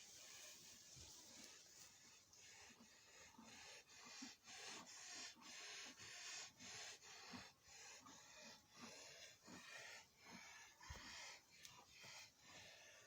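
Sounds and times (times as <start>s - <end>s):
cow breathing rapidly: 0.0s - 13.0s.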